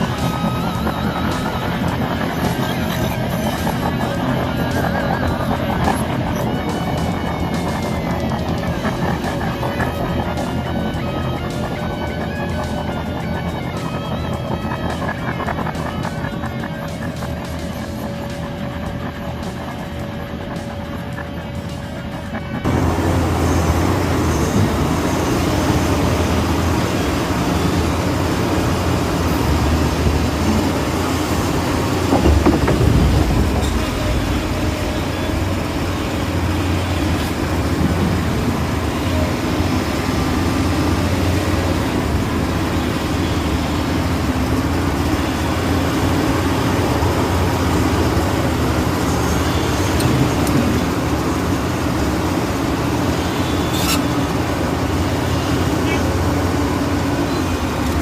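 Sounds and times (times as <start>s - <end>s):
model excavator motors humming: 0.0s - 58.0s.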